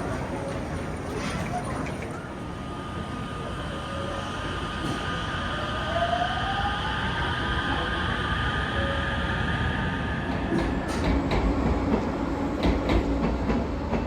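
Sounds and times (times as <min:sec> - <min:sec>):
electric train running by: 0:00.0 - 0:14.0.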